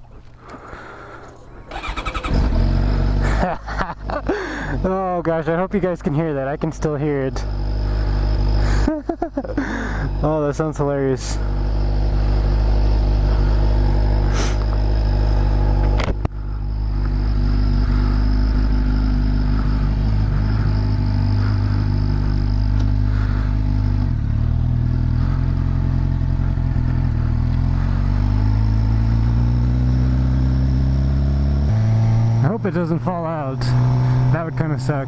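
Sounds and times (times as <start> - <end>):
motorcycle engine running: 1.7 - 35.0.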